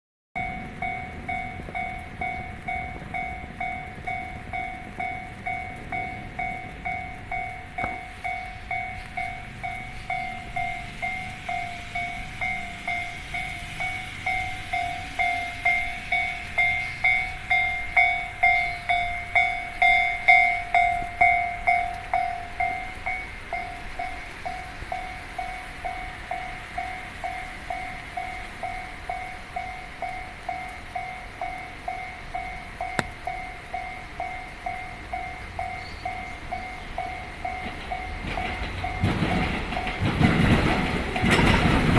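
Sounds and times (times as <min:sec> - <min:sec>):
level crossing warning bell: 0:00.4 - 0:41.9
train passing: 0:00.4 - 0:41.9.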